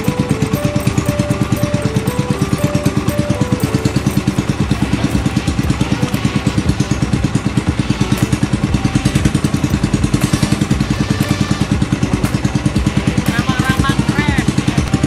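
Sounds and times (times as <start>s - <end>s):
motorboat engine puttering: 0.0s - 15.0s.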